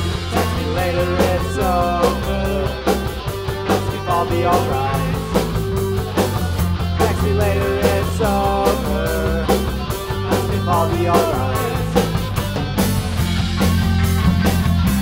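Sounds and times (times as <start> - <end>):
rock band playing live: 0.0 - 15.0
steady drum beat: 0.0 - 15.0.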